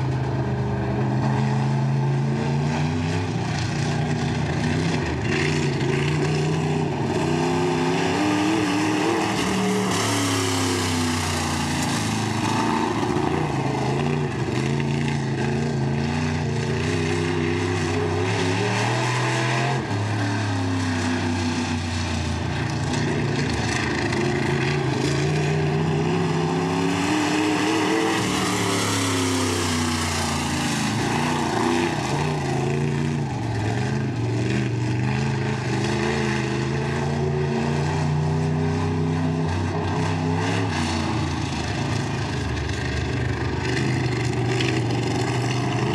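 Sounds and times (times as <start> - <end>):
race car engines revving: 0.0 - 45.9.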